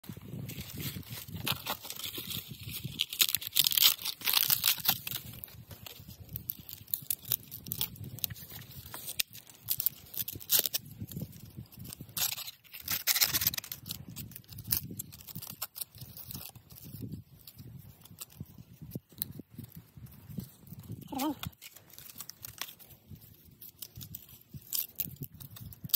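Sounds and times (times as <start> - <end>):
bamboo strips tearing by hand: 0.4 - 25.9.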